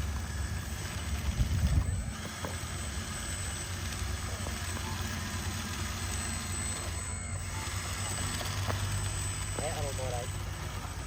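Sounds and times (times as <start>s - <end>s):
remote-control truck motor drone: 0.0s - 11.0s.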